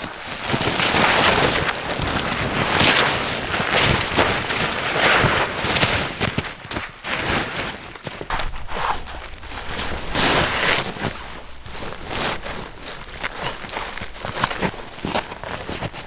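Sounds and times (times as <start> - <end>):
crunching and rustling: 0.0 - 16.0.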